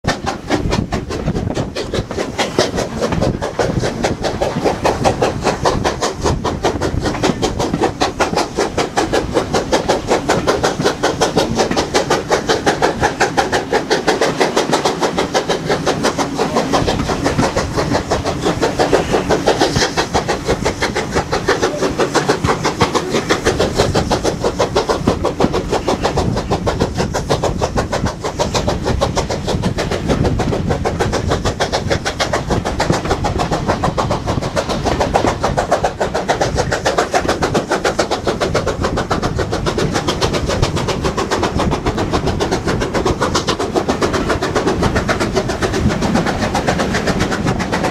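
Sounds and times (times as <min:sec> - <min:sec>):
steam locomotive chuffing: 0:00.0 - 0:47.9
train coaches running over track: 0:00.0 - 0:47.9.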